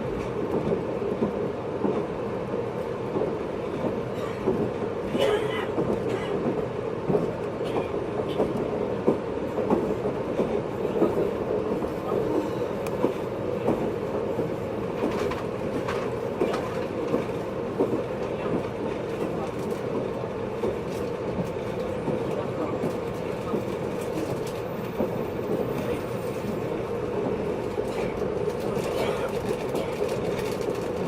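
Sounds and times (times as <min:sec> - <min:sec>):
train running noise: 0:00.0 - 0:31.0.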